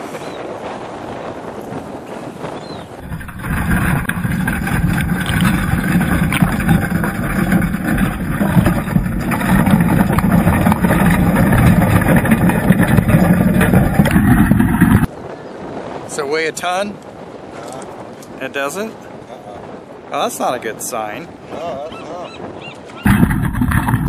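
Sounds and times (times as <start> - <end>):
muffled rushing water: 0.0 - 24.0.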